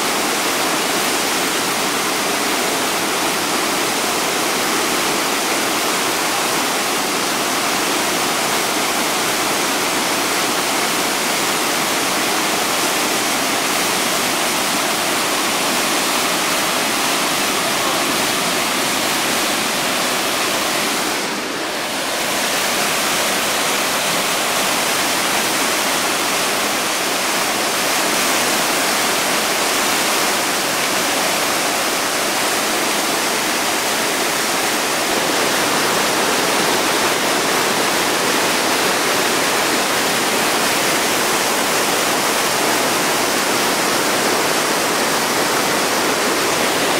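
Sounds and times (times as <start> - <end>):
river rapids rushing: 0.0 - 46.9.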